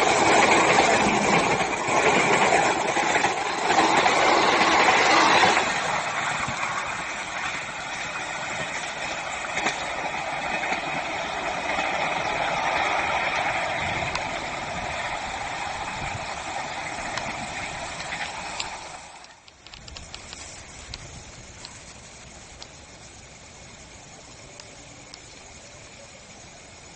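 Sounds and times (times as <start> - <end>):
train wheels rolling on rail: 0.0 - 26.9
sharp clicks of wheels: 0.1 - 26.9.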